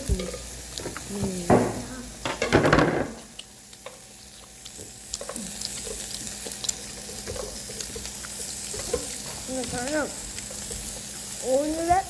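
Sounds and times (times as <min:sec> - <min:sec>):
pork sizzling on a grill: 0:00.0 - 0:12.0.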